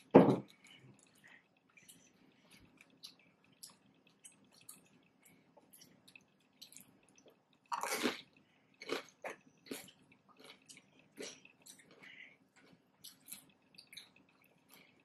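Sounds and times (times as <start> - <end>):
close-miked chewing: 0.5 - 15.0.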